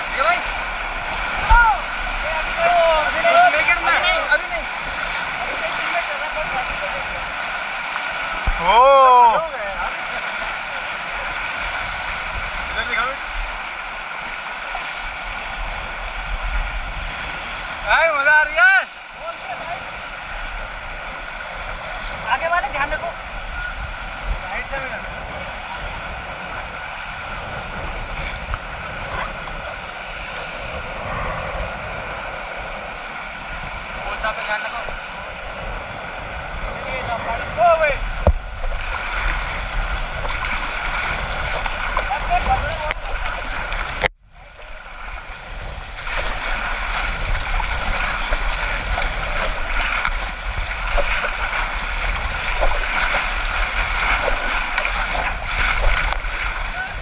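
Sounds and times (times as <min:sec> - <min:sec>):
paddle strokes splashing: 0:00.0 - 0:08.8, 0:18.6 - 0:57.0
rushing river whitewater: 0:00.0 - 0:57.0
wind buffeting microphone: 0:00.0 - 0:57.0.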